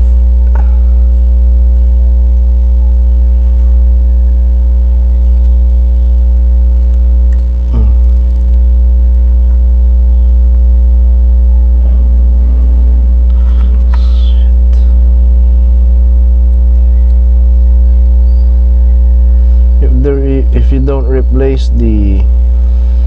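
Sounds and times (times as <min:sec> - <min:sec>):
loud electrical hum: 0:00.0 - 0:23.0.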